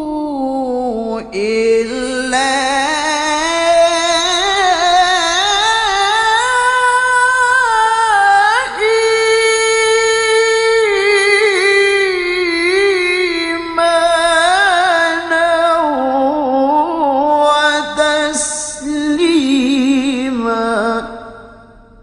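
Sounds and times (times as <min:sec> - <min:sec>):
man reciting in melodic chant: 0:00.0 - 0:21.6.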